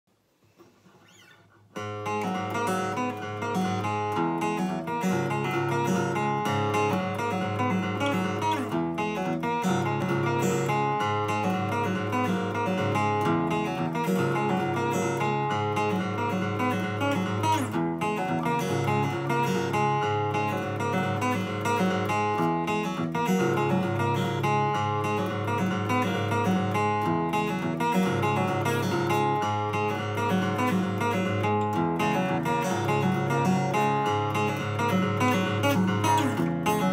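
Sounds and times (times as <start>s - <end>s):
acoustic guitar: 0.1s - 36.9s.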